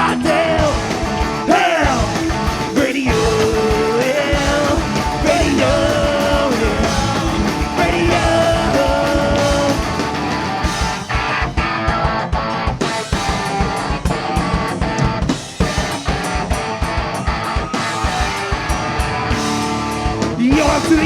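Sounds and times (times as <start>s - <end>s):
bass guitar: 0.0s - 21.0s
drum kit beat: 0.0s - 21.0s
electric guitars: 0.0s - 21.0s.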